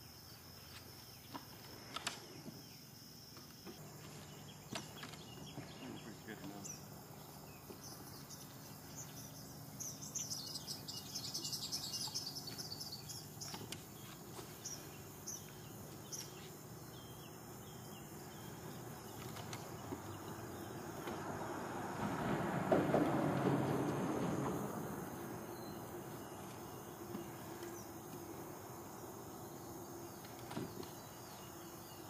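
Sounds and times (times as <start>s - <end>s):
small birds chirping: 0.0s - 21.5s, 25.1s - 32.0s.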